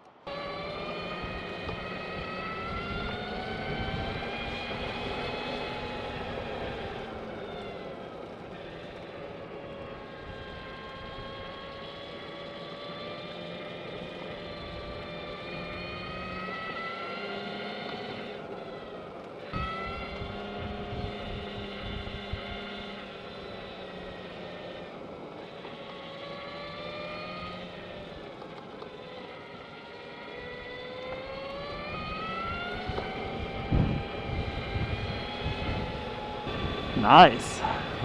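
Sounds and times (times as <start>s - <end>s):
electric motorcycle motor whining: 0.0s - 37.0s, 37.6s - 38.0s
wind and tyre noise: 0.0s - 38.0s.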